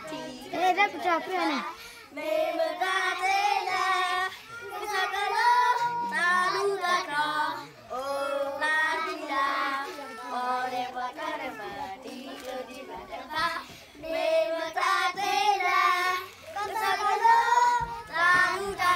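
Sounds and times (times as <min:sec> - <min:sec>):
children singing together: 0:00.0 - 0:18.9.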